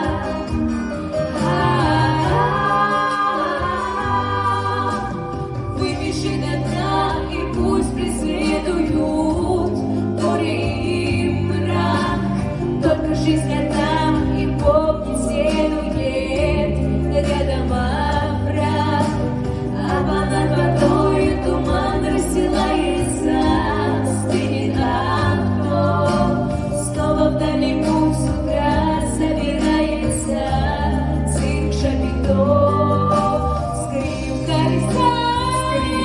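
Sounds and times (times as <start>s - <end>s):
girls singing a pop duet: 0.0s - 36.0s
instrumental accompaniment: 0.0s - 36.0s.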